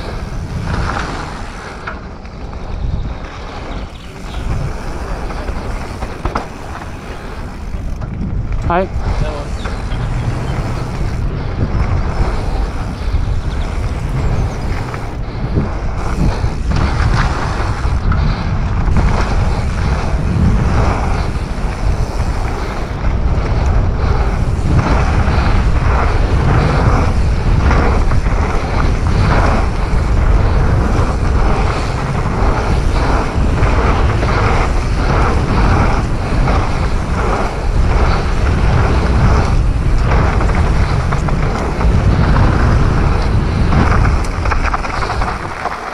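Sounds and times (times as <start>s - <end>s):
mountain bike rattling on dirt: 0.0s - 45.9s
wind on microphone: 0.0s - 45.9s.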